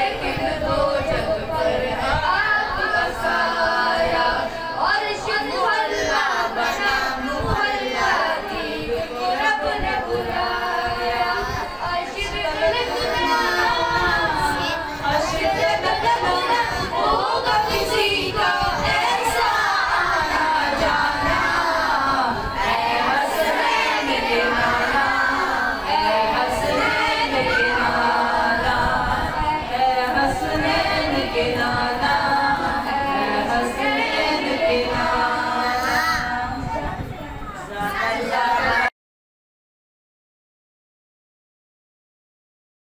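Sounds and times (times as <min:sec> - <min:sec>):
boy singing unaccompanied: 0:00.0 - 0:38.9.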